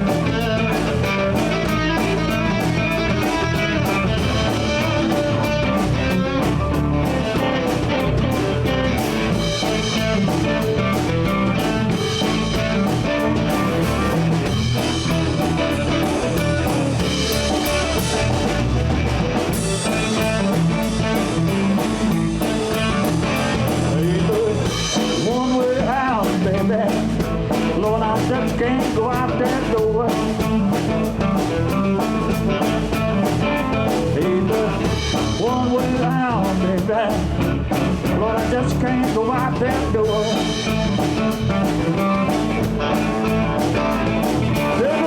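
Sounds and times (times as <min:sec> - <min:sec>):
live blues band playing: 0:00.0 - 0:45.0.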